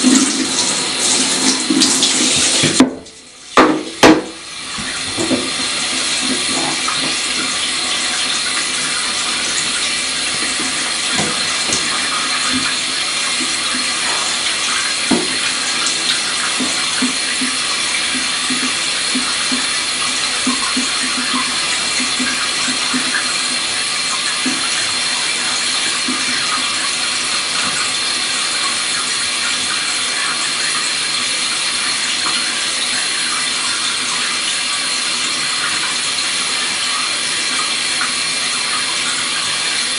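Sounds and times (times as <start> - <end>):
water running into a bathtub: 0.0 - 39.9.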